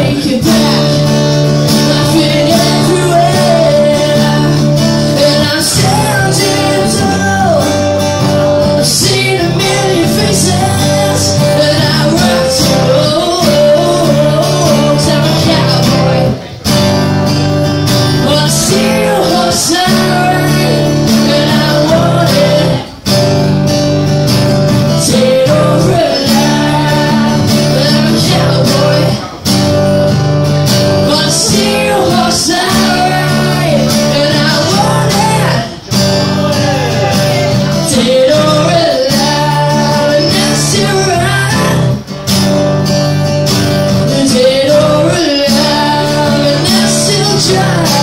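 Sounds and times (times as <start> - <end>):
person singing: 0.0 - 23.2, 24.7 - 29.4, 30.8 - 42.1, 43.6 - 48.0
strummed acoustic guitar: 0.0 - 48.0.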